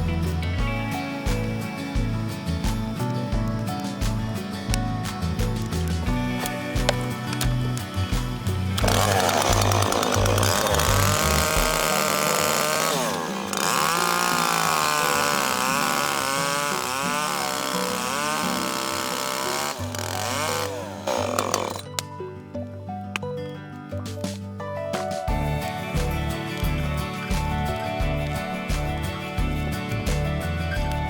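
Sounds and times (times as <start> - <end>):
two-stroke power tool engine: 0.0 - 22.0, 25.3 - 31.0
background music: 0.0 - 31.0.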